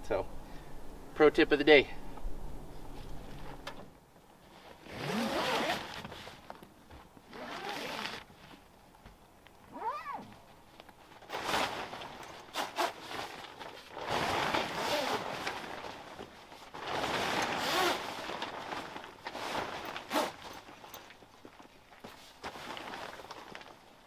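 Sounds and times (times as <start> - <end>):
canvas rustling and scraping: 2.9 - 8.7, 9.7 - 24.0.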